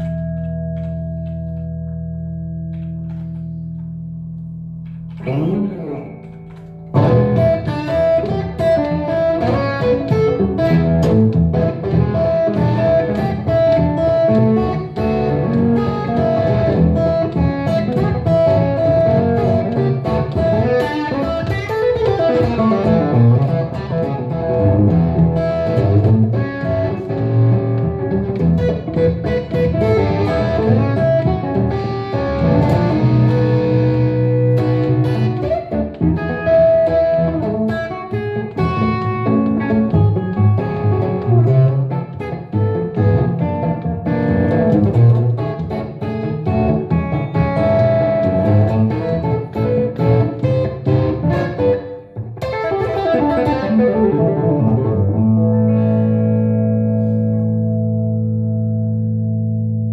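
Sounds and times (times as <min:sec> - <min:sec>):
electric guitar blues lead: 0:00.0 - 0:59.9.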